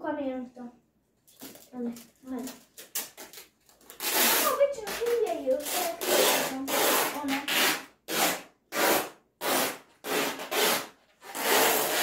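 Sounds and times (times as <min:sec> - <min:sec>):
packing tape pulled off roll: 0:01.3 - 0:12.0.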